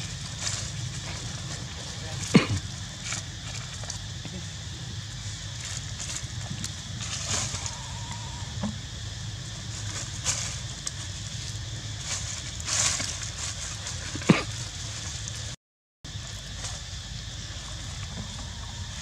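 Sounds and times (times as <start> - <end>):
rustling in dry leaves: 0.0 - 19.0.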